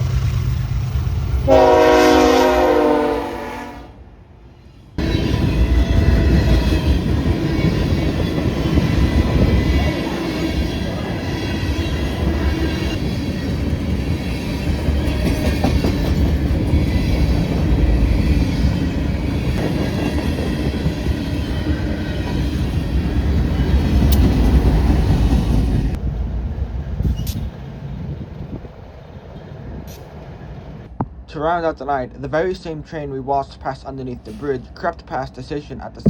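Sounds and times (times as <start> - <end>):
freight train rumbling: 0.0 - 31.6.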